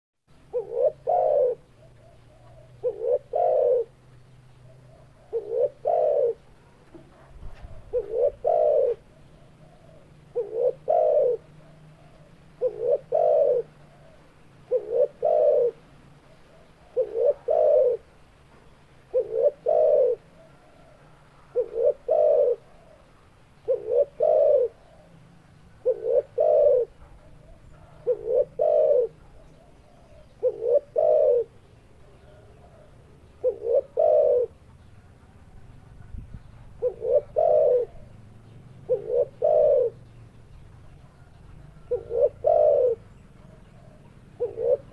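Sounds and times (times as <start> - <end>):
dove cooing: 0.3 - 44.9.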